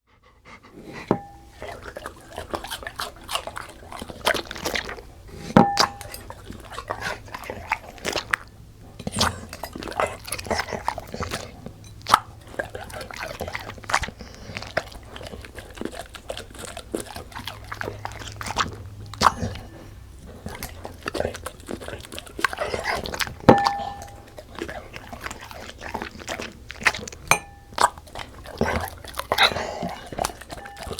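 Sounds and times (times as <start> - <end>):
dog chewing and crunching food: 0.0 - 30.9.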